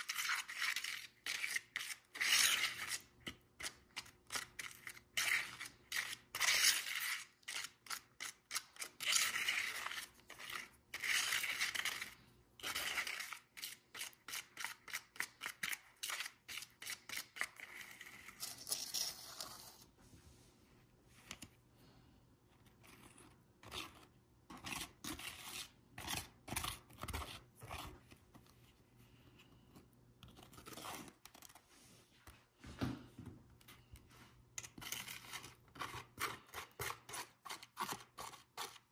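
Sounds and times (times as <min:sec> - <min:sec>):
plastic spoon scraping paste: 0:00.0 - 0:20.0, 0:22.5 - 0:31.7, 0:33.6 - 0:38.9.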